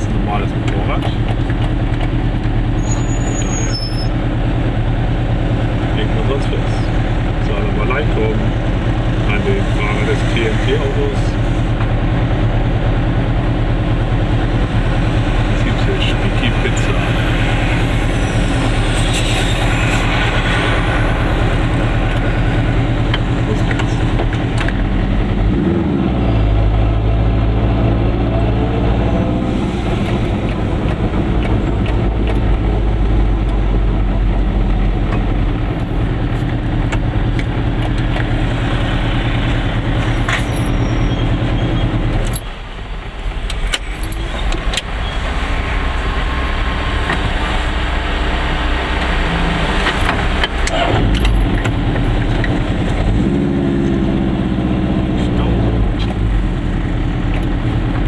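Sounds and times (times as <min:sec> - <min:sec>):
two-stroke car engine driving: 0:00.0 - 0:58.0.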